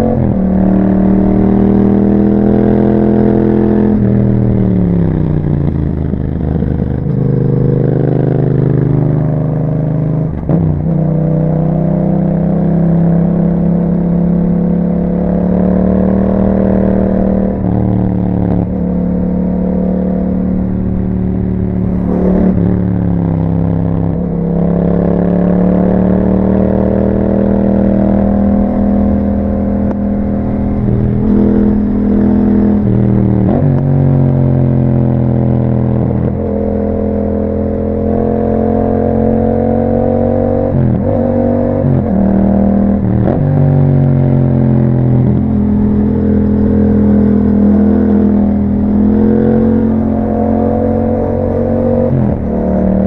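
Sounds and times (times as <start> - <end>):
motorcycle engine while riding: 0.0 - 53.0.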